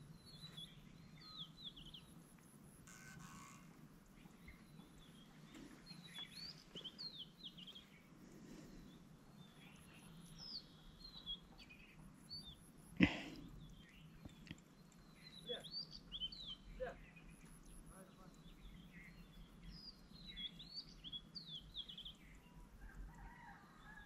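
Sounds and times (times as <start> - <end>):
faint background hum: 0.0 - 24.0
small birds chirping: 0.0 - 24.0.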